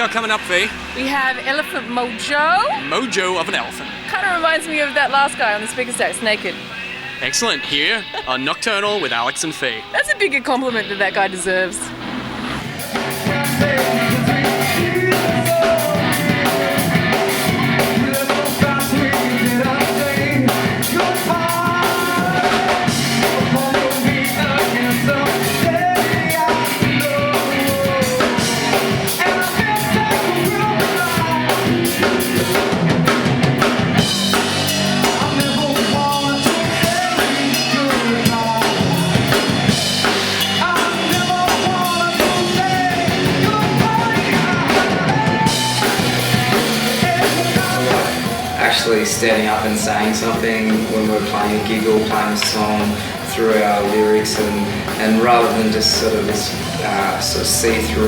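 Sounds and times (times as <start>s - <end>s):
rock band playing: 0.0s - 58.0s
drum kit beat: 7.2s - 11.8s, 12.6s - 58.0s.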